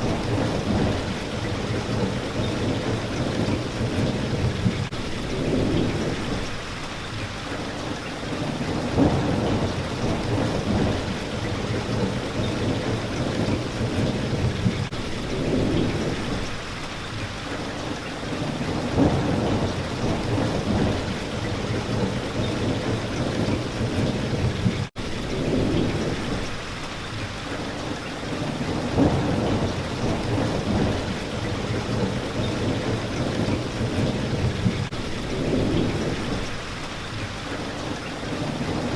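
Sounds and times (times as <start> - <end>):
heavy rain on a window: 0.0 - 38.9.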